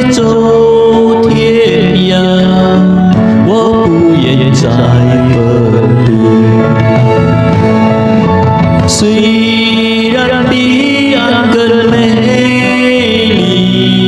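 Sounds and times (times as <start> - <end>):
backing track music: 0.0 - 14.0
man singing pop ballad: 0.0 - 14.0.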